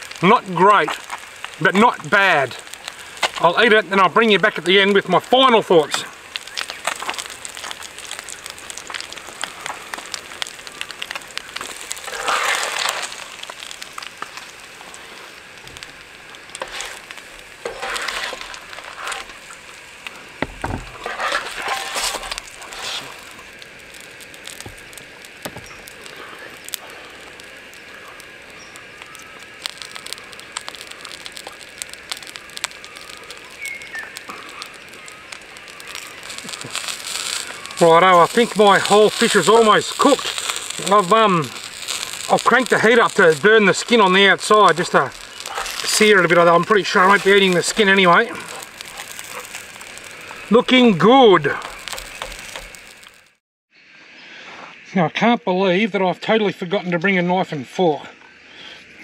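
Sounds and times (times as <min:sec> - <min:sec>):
fish frying and crackling: 0:00.0 - 0:53.9.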